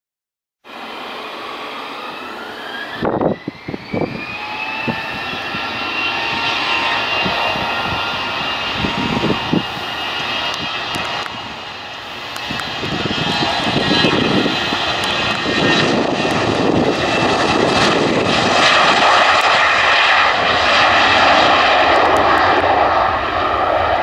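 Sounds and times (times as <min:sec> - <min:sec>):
jet engines whining: 0:00.6 - 0:24.0.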